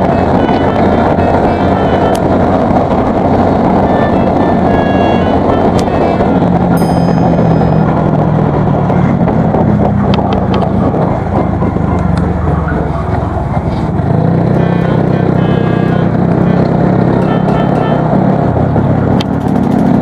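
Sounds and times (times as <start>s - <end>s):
motorcycle engine exhaust: 0.0s - 20.0s.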